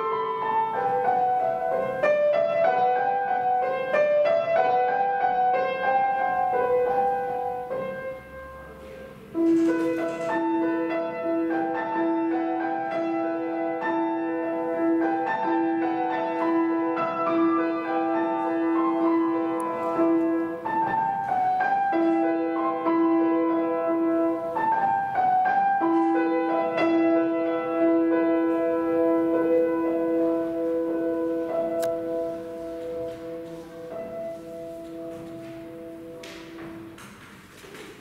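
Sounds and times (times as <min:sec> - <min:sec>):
solo grand piano: 0:00.0 - 0:38.0.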